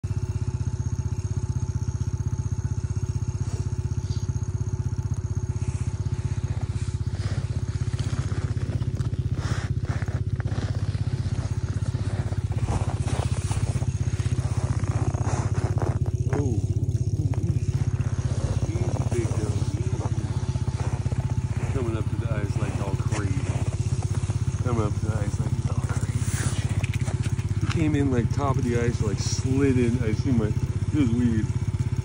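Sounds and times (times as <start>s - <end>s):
engine running with rapid pulse: 0.0s - 32.0s.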